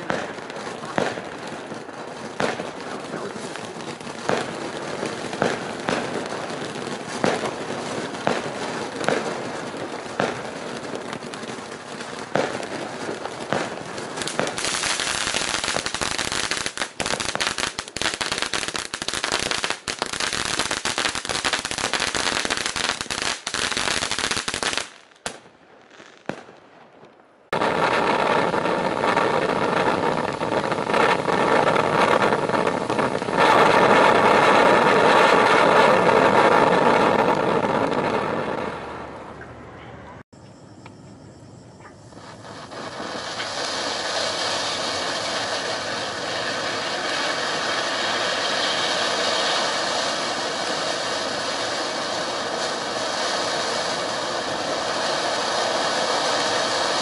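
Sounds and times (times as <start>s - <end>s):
firework fountain hissing: 0.0s - 25.0s, 27.5s - 39.4s, 41.2s - 57.0s
fireworks popping and crackling: 0.0s - 39.5s, 41.8s - 57.0s.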